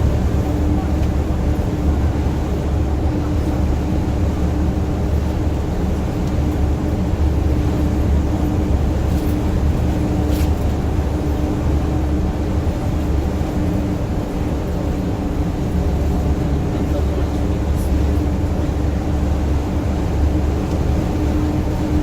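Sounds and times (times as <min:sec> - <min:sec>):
bus road rumble: 0:00.0 - 0:22.0.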